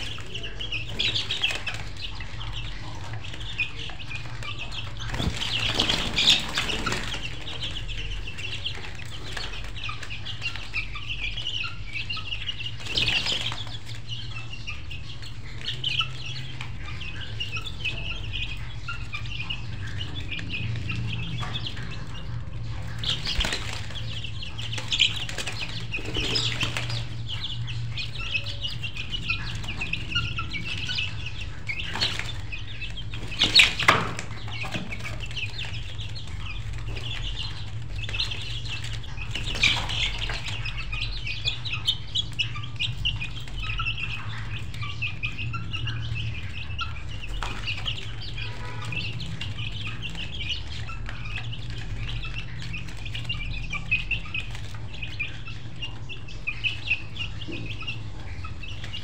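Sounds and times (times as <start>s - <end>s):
birds chirping: 0.0s - 59.0s
chickens clucking: 0.0s - 59.0s.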